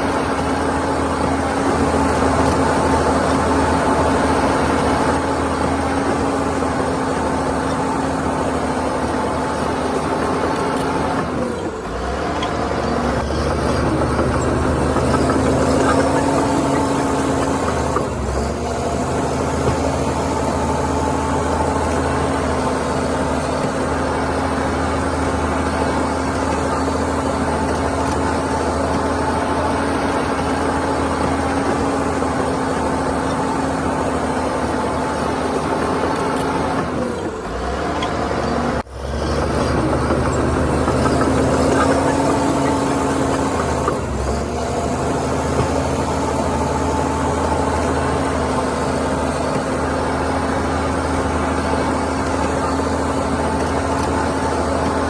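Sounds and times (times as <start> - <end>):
constant mechanical whine: 0.0 - 55.0
heavy diesel machinery rumbling: 0.0 - 55.0.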